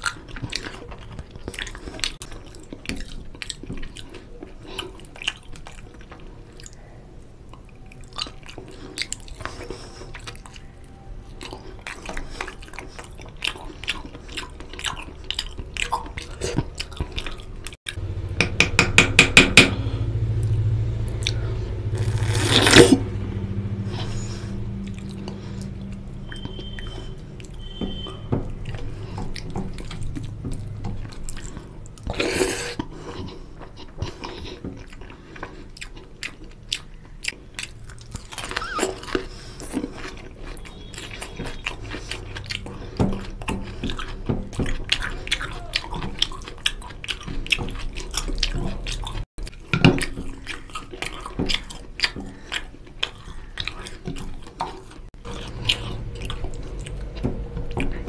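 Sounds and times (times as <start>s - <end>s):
wet chewing and mouth sounds: 0.0s - 18.0s, 20.4s - 58.0s.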